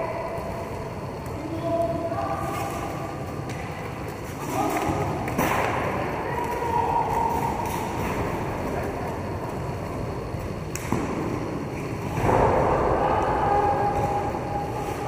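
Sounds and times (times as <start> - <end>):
skate wheels rolling on rink floor: 0.0 - 15.0.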